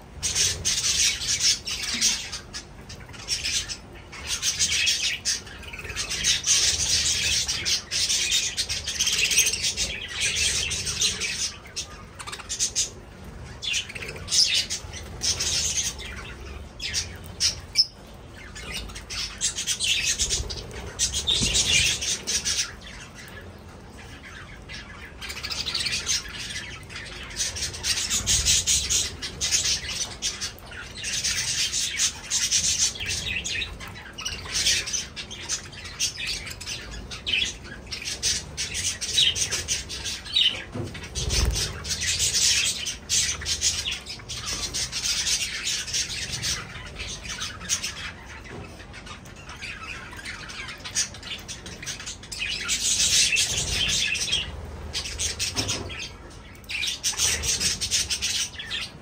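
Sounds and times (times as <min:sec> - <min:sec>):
budgerigars chattering and squawking: 0:00.2 - 0:59.0.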